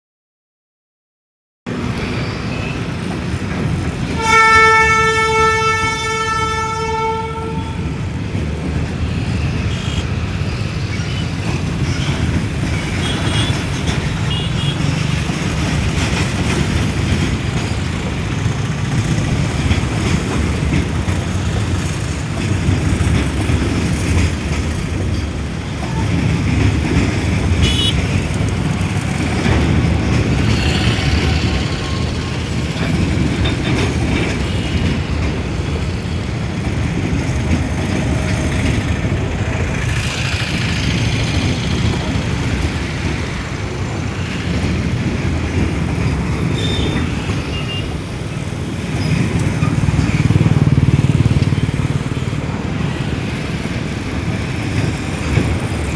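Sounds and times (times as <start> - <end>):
freight train rumbling: 1.7 - 55.9.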